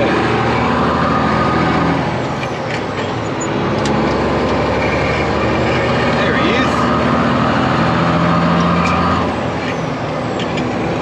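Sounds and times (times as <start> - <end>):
road noise: 0.0 - 11.0
truck diesel engine running: 0.0 - 11.0.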